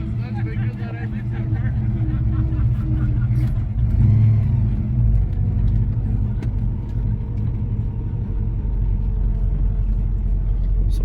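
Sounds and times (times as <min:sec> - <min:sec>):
car engine rumbling inside cabin: 0:00.0 - 0:11.0.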